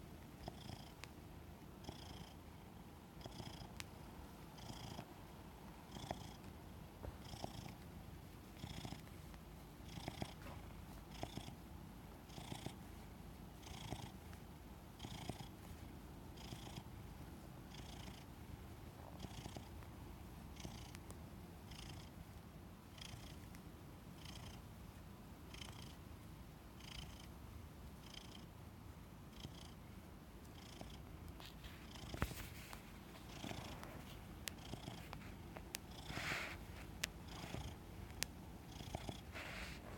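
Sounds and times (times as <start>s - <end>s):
cat purring: 0.3s - 1.1s, 1.7s - 26.1s, 26.7s - 28.5s, 29.2s - 39.9s.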